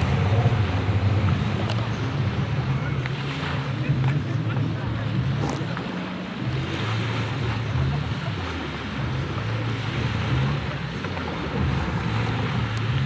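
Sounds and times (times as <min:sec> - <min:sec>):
jet ski engine idling: 0:00.0 - 0:13.0
surf washing: 0:00.0 - 0:13.0.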